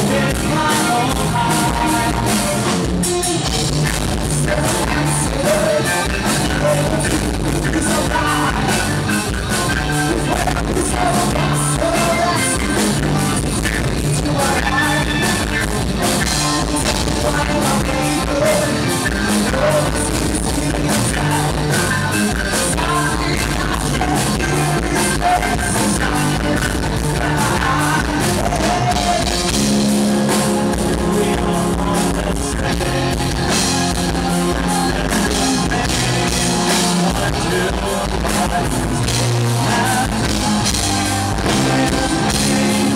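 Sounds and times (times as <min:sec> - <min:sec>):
person singing: 0:00.0 - 0:15.6, 0:16.4 - 0:42.9
live rock band: 0:00.0 - 0:42.9.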